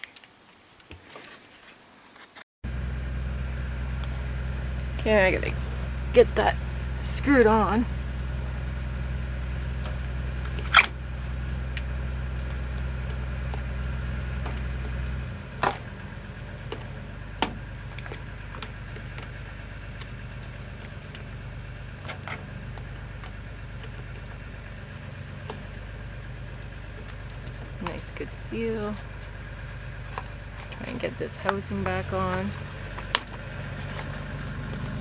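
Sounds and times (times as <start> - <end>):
low mechanical hum: 2.7 - 35.0.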